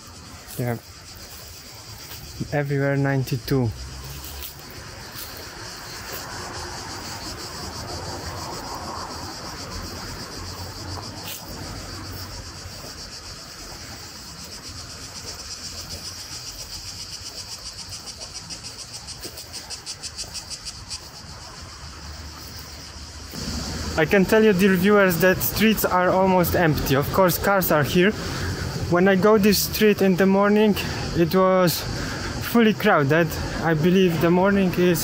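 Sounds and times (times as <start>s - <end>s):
insects shrilling: 0.0s - 35.0s.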